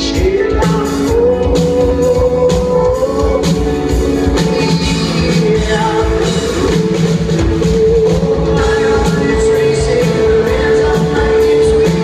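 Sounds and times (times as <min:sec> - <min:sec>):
distorted electric guitars: 0:00.0 - 0:12.0
drum kit: 0:00.0 - 0:12.0
person singing: 0:00.0 - 0:12.0.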